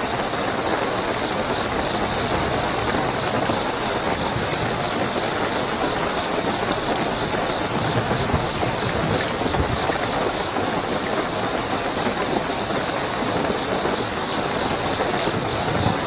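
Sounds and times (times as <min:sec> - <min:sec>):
crickets trilling: 0:00.0 - 0:16.0
heavy rainfall: 0:00.0 - 0:16.0.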